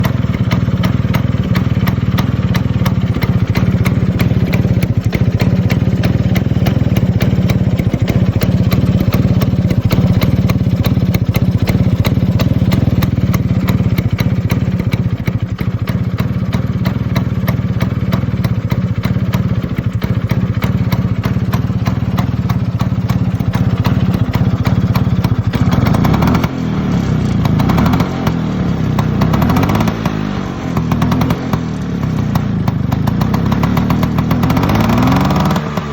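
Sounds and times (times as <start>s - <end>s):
scooter engine idling: 0.0s - 35.9s.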